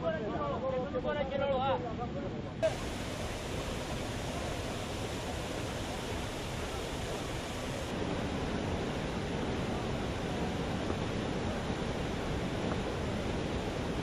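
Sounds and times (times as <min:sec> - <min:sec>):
fast-flowing floodwater rushing: 0:02.6 - 0:14.0.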